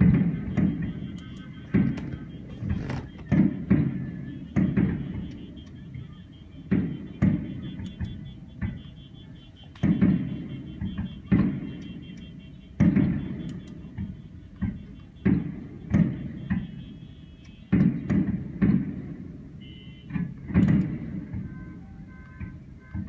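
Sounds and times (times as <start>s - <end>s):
distant fireworks booming: 0.0s - 23.0s.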